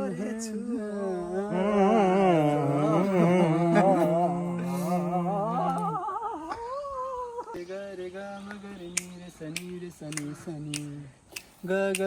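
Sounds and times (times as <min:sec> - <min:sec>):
voices singing and humming: 0:00.0 - 0:12.0.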